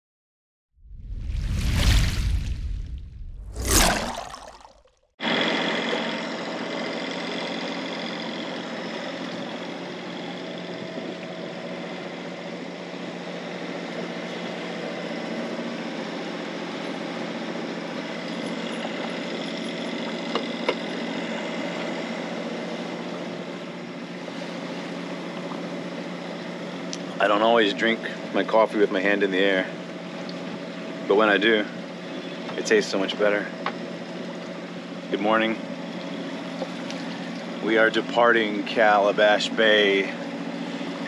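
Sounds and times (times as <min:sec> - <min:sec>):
diesel engine humming: 0:05.3 - 0:41.0.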